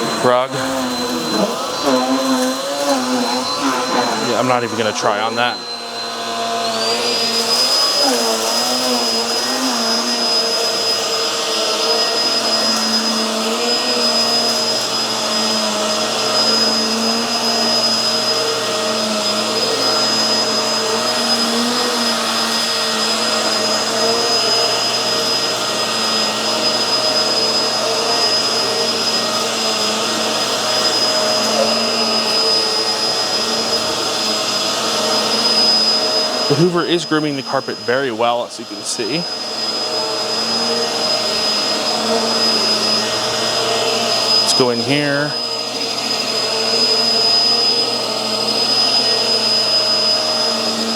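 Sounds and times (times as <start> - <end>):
upright vacuum cleaner running: 0.0 - 50.9.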